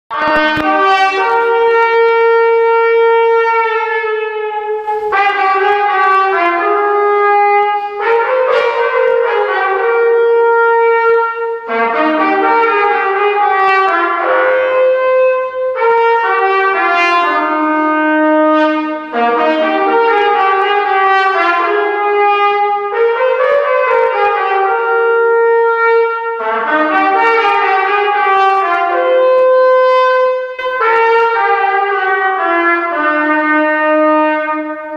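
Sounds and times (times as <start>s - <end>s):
solo trumpet melody: 0.1s - 34.9s.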